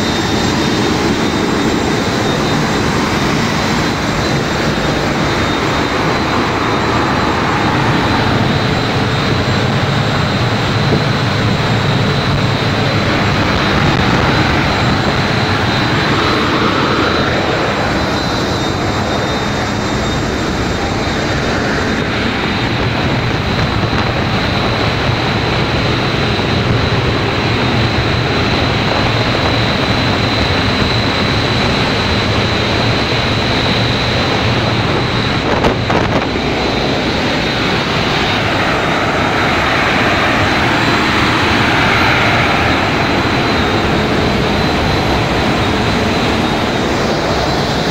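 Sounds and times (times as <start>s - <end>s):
gas turbine running: 0.0s - 47.9s
steady high whine: 0.0s - 47.9s.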